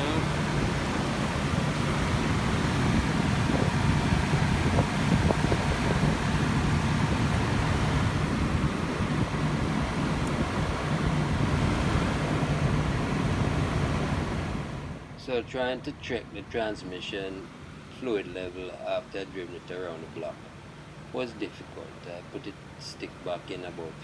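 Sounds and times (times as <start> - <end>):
minivan engine idling: 0.0 - 24.0.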